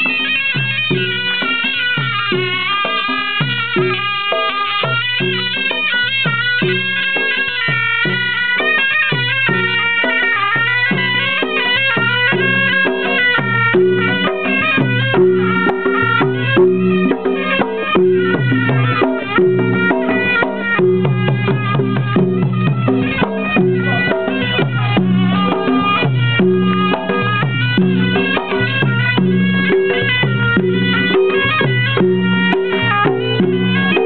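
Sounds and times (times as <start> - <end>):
drums: 0.0 - 34.0
reedy wind instrument melody: 0.0 - 34.0.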